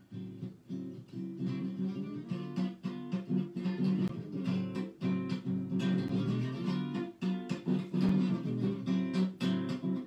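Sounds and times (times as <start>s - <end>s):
acoustic guitar plucked and strummed: 0.0s - 10.0s.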